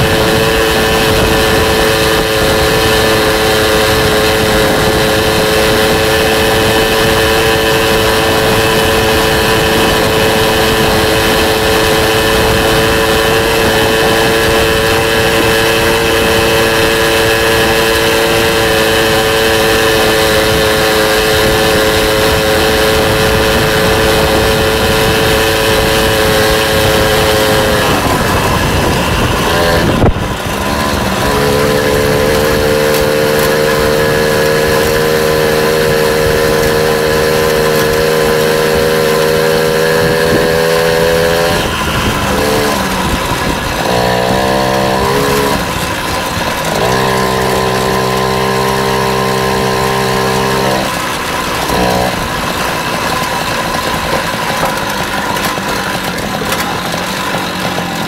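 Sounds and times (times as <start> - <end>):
wind rushing over microphone: 0.0 - 56.1
small vehicle engine running: 0.0 - 58.0.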